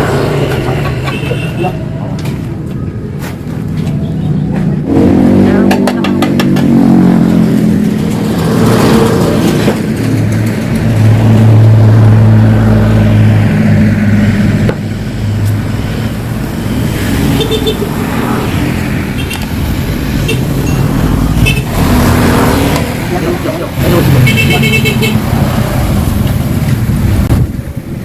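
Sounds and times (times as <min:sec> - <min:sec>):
two-stroke motorcycle engine drone: 0:04.8 - 0:28.0.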